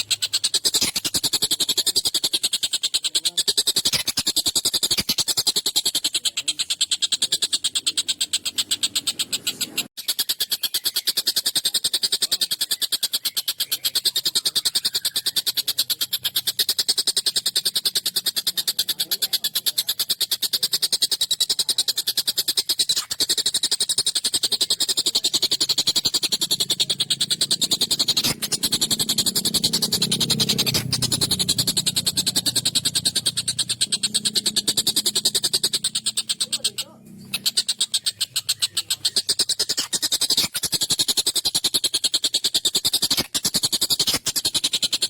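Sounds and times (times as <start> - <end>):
kingfisher rattling trill: 0.0 - 45.0.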